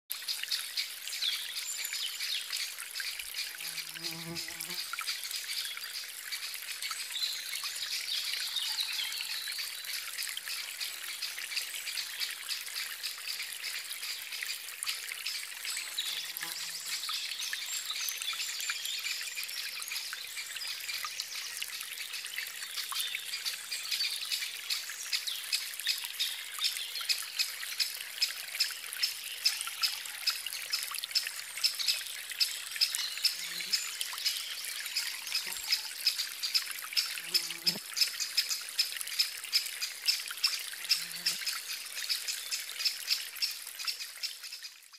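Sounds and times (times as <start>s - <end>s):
stream water trickling: 0.1s - 44.9s.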